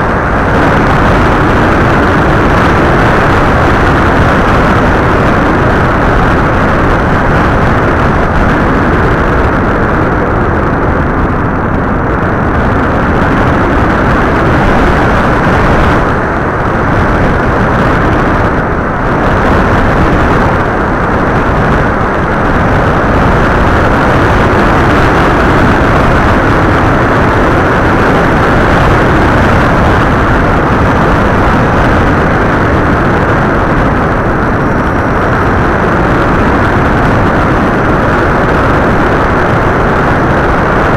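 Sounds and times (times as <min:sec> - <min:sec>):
wind over aircraft: 0:00.0 - 0:40.9.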